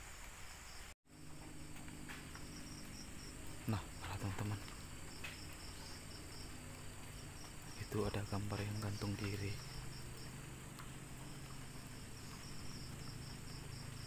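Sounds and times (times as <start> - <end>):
night insects chirping: 0.0 - 14.0
steady low hum: 1.1 - 14.0.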